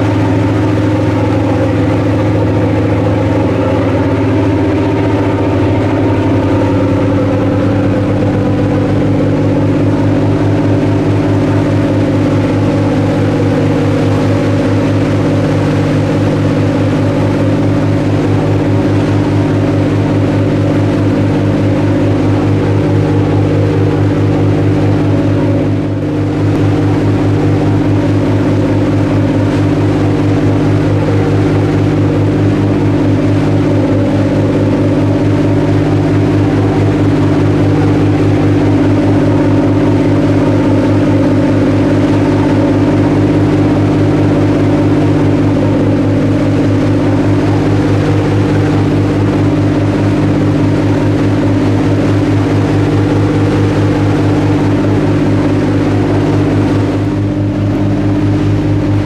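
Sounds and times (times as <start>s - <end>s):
ship diesel engines droning: 0.0s - 59.0s
water churning in wake: 0.0s - 59.0s.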